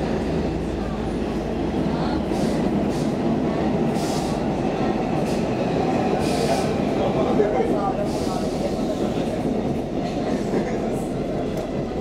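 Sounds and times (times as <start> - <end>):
subway wheels rumbling on rail: 0.0 - 12.0.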